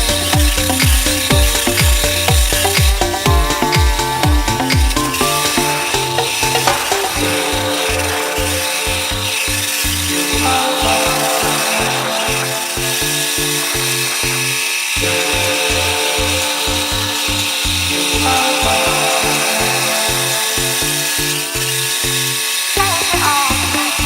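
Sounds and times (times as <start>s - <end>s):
music with pulsing bass: 0.0s - 24.0s
power tool grinding concrete: 0.0s - 24.0s.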